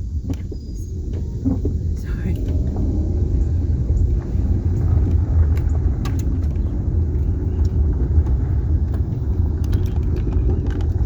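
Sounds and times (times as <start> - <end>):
car driving slowly: 0.0 - 11.0
faint clicks and rattles: 0.3 - 11.0.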